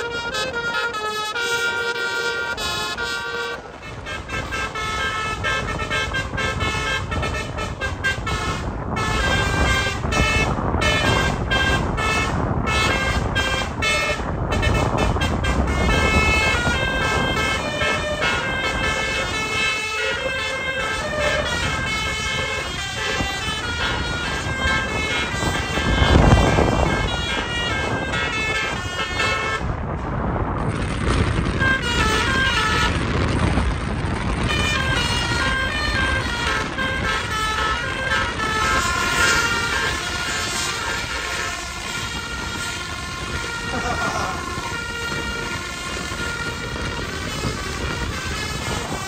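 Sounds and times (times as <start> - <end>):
vehicle horns tooting melodies: 0.0 - 30.1, 31.4 - 33.5, 34.3 - 49.0
engine and road noise: 0.0 - 49.0.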